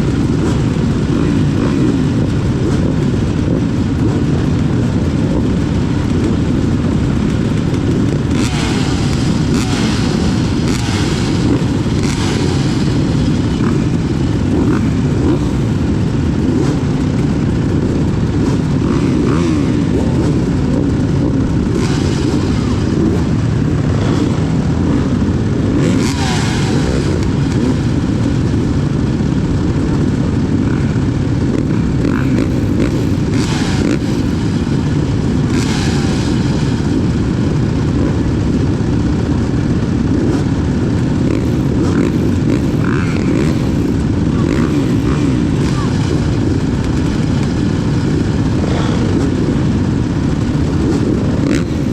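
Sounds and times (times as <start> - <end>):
dirt bike engines revving: 0.0 - 51.9
dirt bikes passing by: 0.0 - 51.9.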